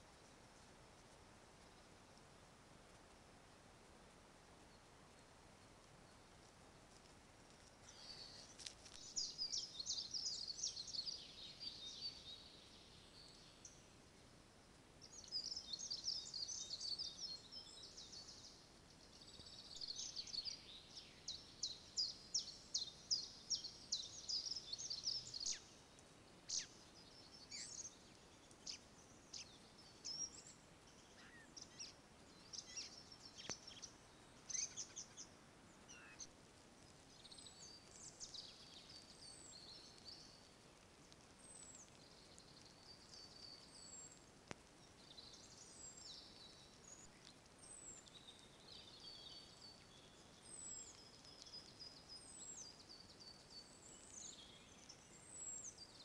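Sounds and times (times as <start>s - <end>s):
faint steady hiss: 0.0s - 56.0s
songbirds singing: 4.6s - 14.0s, 15.0s - 56.0s.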